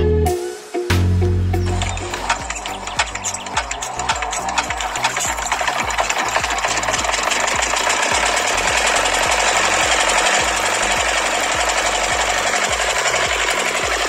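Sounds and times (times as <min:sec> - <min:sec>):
small pump motor rattling: 0:01.7 - 0:14.0.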